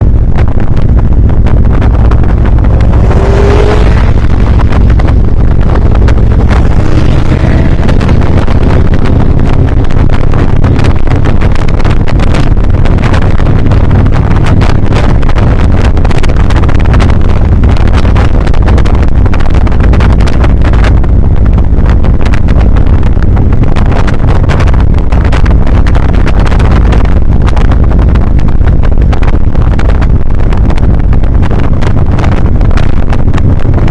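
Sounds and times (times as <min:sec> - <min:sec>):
motorcycle engine: 0:00.0 - 0:33.9
wind rush: 0:00.0 - 0:33.9.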